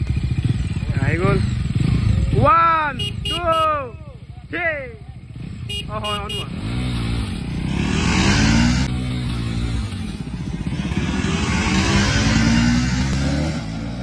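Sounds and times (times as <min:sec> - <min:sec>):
motorcycles accelerating hard: 0:00.0 - 0:03.3, 0:05.2 - 0:14.0.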